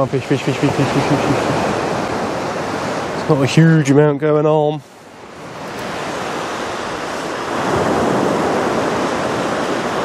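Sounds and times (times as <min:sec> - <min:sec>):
surf breaking on beach: 0:00.0 - 0:04.0, 0:05.3 - 0:10.0.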